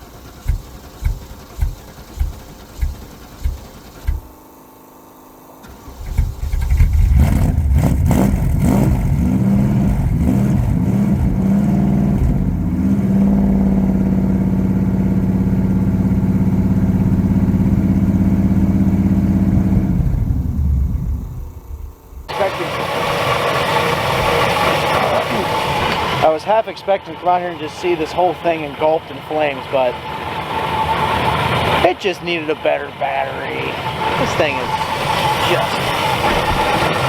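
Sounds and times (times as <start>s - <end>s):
car engine starting and running: 0.0s - 37.0s.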